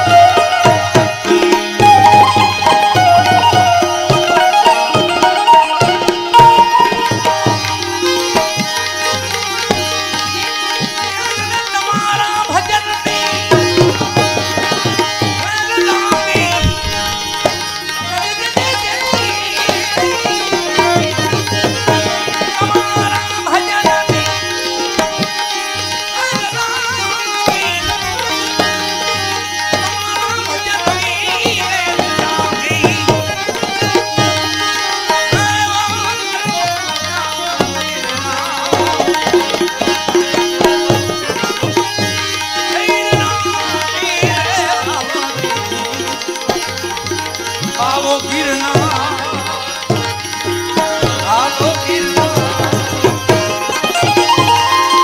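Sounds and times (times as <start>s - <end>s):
held melody instrument: 0.0s - 55.0s
tabla drumming: 0.0s - 55.0s.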